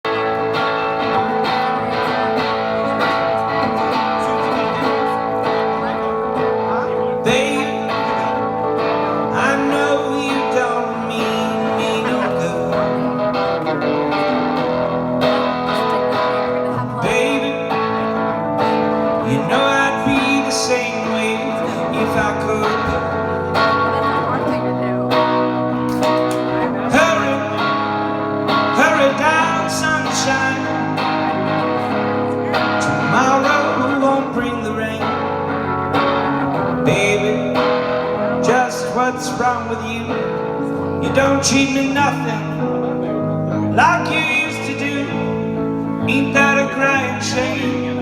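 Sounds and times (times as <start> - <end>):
band playing guitar-led intro: 0.0 - 48.0.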